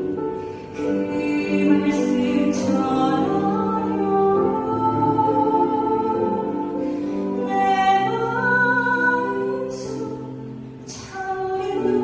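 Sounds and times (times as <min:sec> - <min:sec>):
soft instrumental accompaniment: 0:00.0 - 0:12.0
woman singing into a microphone: 0:00.0 - 0:12.0.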